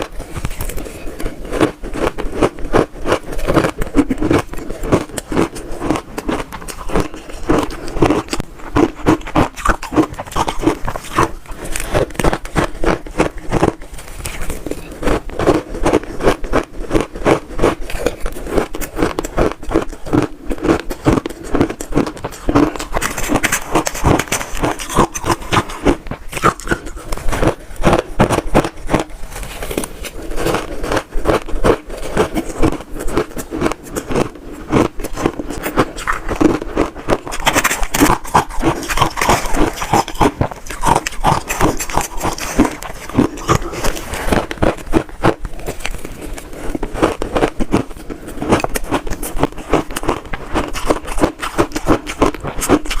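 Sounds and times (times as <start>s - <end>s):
chewing crunchy ice: 0.0s - 53.0s.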